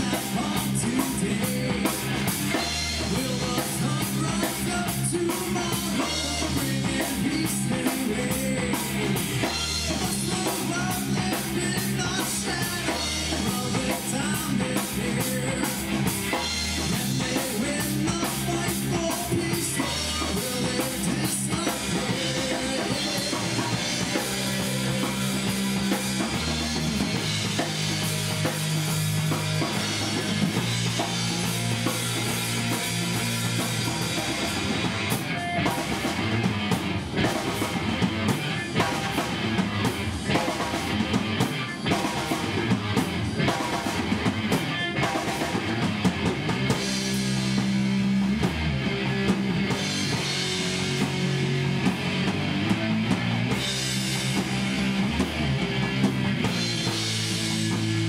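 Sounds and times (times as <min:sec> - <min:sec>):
bass riffing: 0:00.0 - 0:58.0
distorted electric guitar: 0:00.0 - 0:58.0
drum kit: 0:00.0 - 0:58.0.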